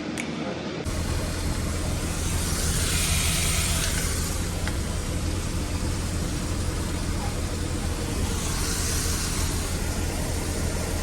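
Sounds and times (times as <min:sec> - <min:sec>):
vehicle engine hum: 0:00.8 - 0:11.0
hiss: 0:00.9 - 0:11.0.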